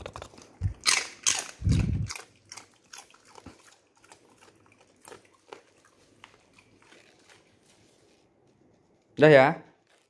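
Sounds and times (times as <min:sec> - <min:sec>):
dog crunching a snack: 0:00.0 - 0:08.3, 0:09.7 - 0:10.0.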